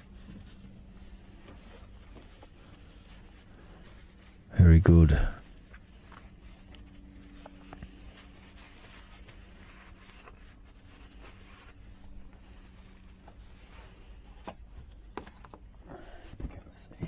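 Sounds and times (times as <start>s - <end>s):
rustling handling noise: 0.0s - 17.0s
steady low hum: 0.0s - 17.0s.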